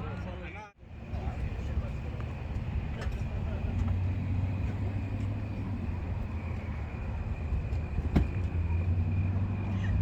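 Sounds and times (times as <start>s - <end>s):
vehicle engine drone: 0.0s - 10.0s.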